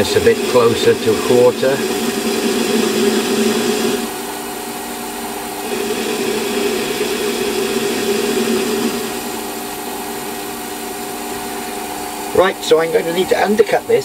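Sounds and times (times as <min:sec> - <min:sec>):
lathe tool cutting metal: 0:00.0 - 0:13.4
metal lathe humming: 0:00.0 - 0:14.0.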